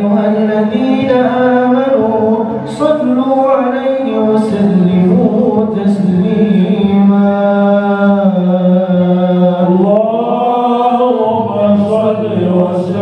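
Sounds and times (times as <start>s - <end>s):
young man singing devotional song: 0.0s - 13.0s.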